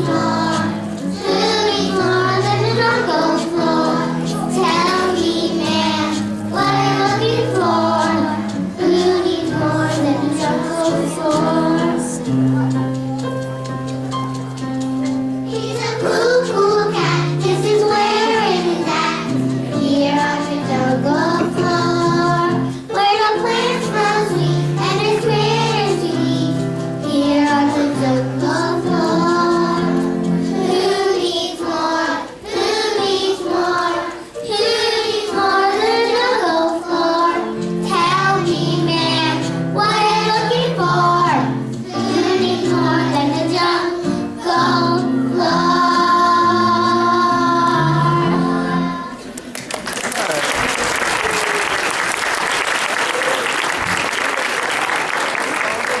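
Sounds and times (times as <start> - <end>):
children singing: 0.0 - 13.2, 15.0 - 49.4
instrumental accompaniment: 0.0 - 49.5.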